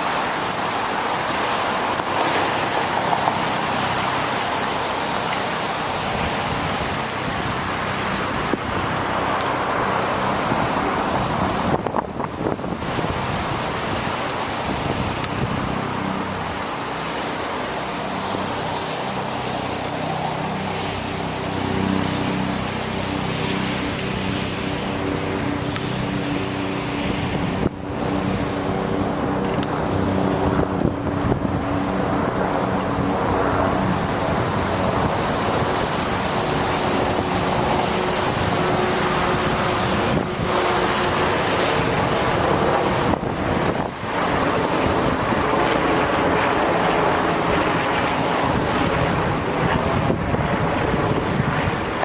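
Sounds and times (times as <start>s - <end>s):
tyres hissing on wet road: 0.0s - 50.2s
wind: 0.0s - 52.0s.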